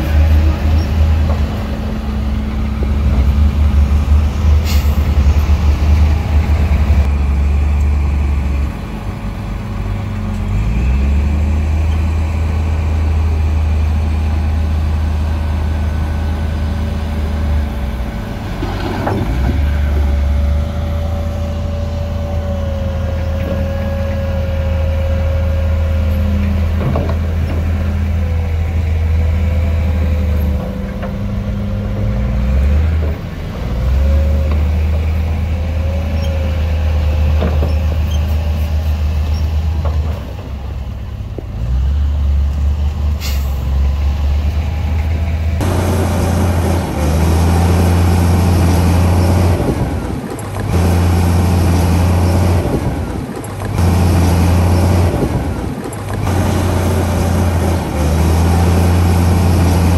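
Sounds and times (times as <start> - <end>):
diesel engine low rumble: 0.0 - 59.9.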